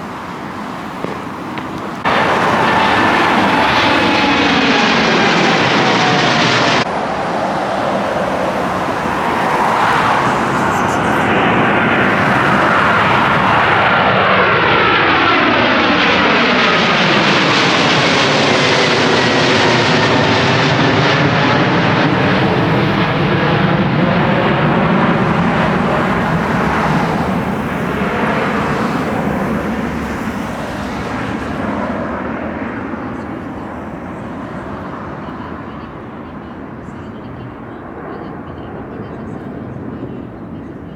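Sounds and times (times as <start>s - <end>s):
jet airliner passing overhead: 0.0s - 40.9s.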